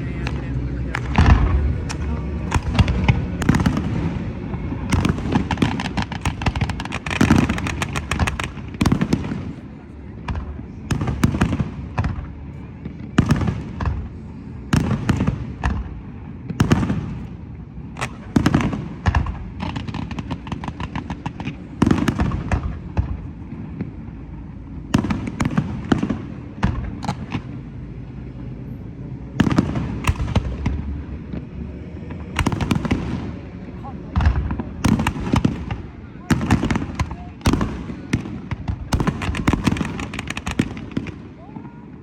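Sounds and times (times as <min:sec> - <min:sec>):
echoing booms: 0:00.0 - 0:09.6, 0:10.2 - 0:24.0, 0:24.9 - 0:27.7, 0:29.3 - 0:41.7
fireworks bursting: 0:00.0 - 0:24.0, 0:24.9 - 0:27.7, 0:29.3 - 0:42.0
fireworks crackling: 0:00.0 - 0:24.1, 0:29.4 - 0:42.0.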